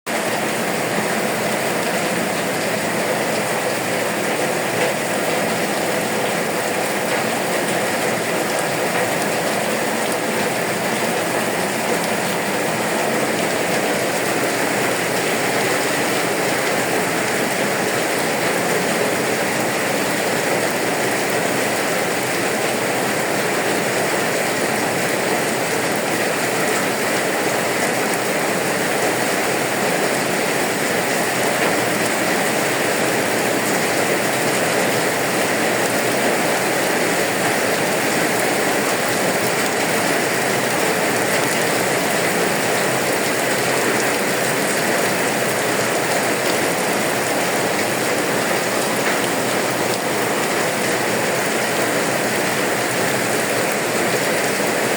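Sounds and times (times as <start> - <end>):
rain falling: 0.1 - 54.9.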